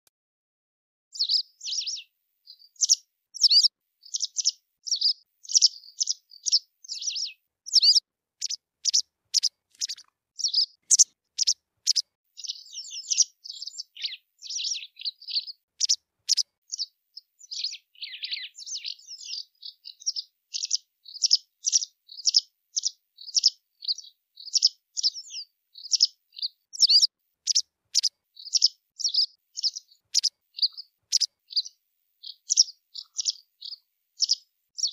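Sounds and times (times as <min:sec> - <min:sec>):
bird chirping and twittering: 0:01.2 - 0:34.9.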